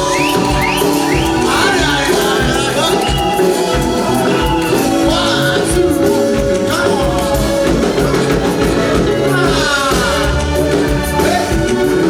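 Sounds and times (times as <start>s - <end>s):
band playing steady beat: 0.0s - 12.0s
voices singing: 0.0s - 12.0s.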